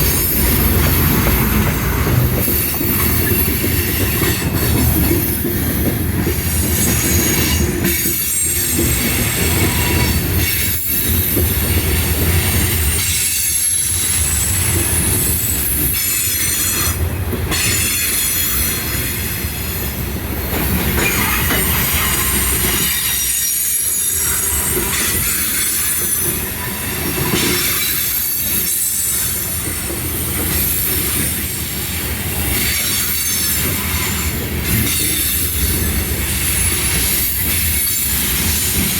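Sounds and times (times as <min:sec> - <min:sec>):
train cars rumbling past: 0:00.0 - 0:38.9.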